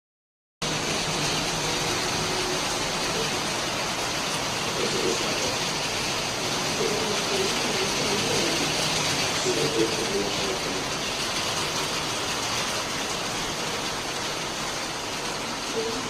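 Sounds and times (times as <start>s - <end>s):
heavy rain hissing: 0.6s - 16.0s.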